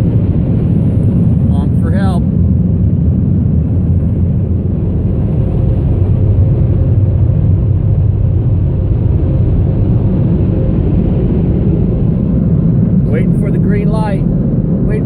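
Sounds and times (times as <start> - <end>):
car wash machinery rumble: 0.0 - 15.0.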